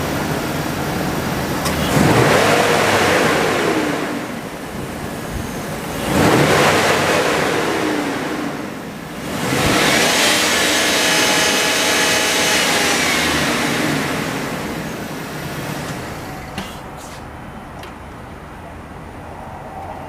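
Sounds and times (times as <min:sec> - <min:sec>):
pickup truck engine revving: 0:00.0 - 0:17.5.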